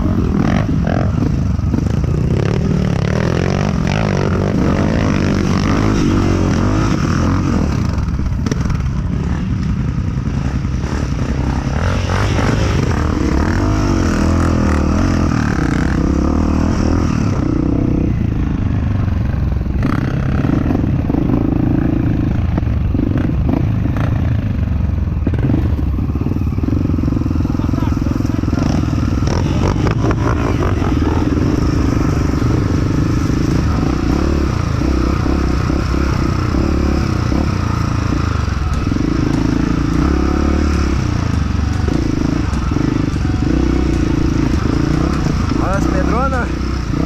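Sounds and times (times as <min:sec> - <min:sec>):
off-road vehicle engine under load: 0:00.0 - 0:47.0.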